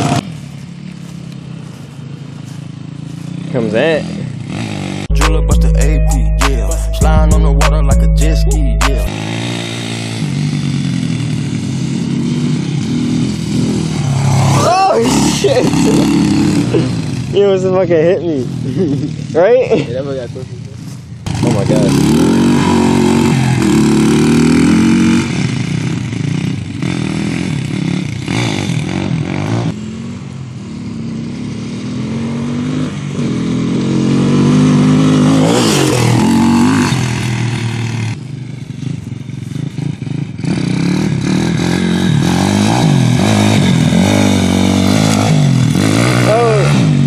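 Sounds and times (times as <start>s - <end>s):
dirt bike engines revving: 0.0s - 7.4s, 8.2s - 47.0s.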